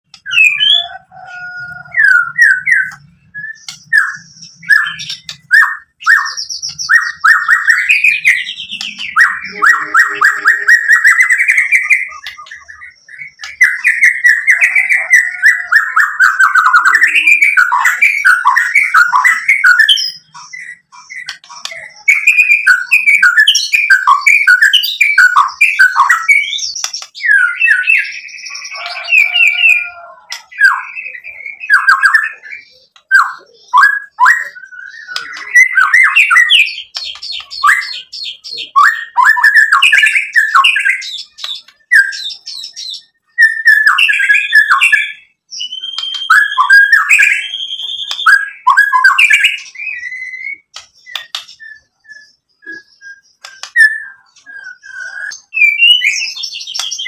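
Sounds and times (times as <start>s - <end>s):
bird singing whistled song: 0.1s - 57.0s.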